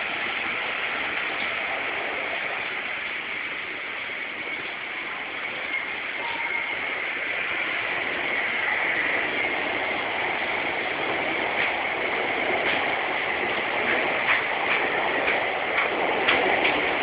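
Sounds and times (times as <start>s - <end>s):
train wheels clacking over rail joints: 0.0s - 17.0s
water rushing: 0.0s - 17.0s.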